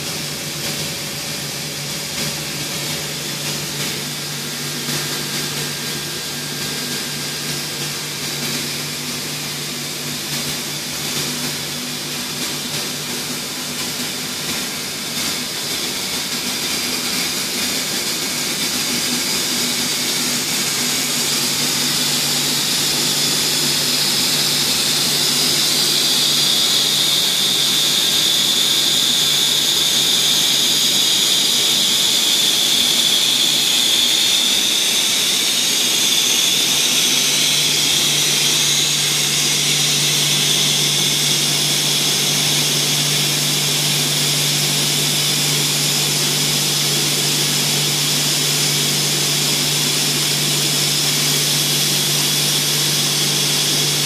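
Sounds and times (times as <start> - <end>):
extrusion machinery running: 0.0 - 54.0
high machine whine: 0.0 - 54.0.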